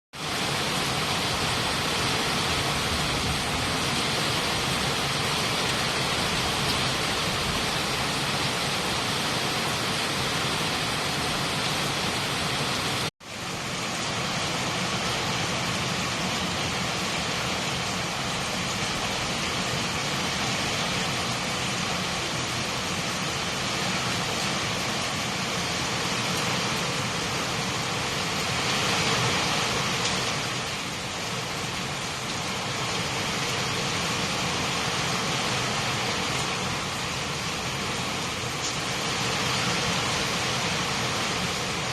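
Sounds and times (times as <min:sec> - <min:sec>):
heavy rain falling: 0:00.2 - 0:41.9.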